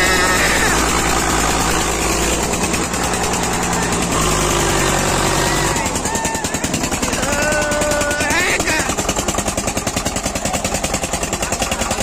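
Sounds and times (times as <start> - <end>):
tractor diesel engines droning: 0.0 - 12.0.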